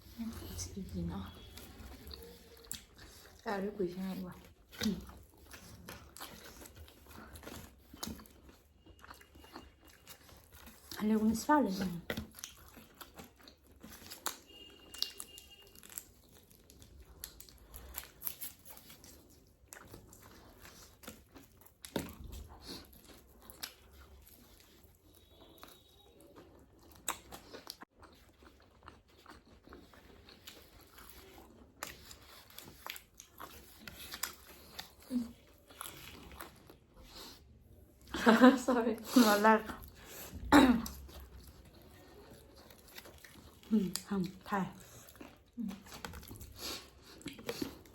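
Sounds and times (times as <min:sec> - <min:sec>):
chewing fried chicken: 0:00.0 - 0:47.9.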